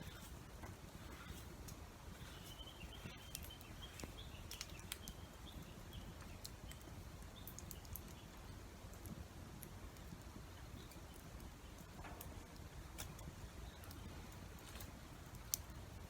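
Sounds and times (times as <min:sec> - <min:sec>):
campfire crackling: 0:00.0 - 0:16.0
rain: 0:03.0 - 0:16.0.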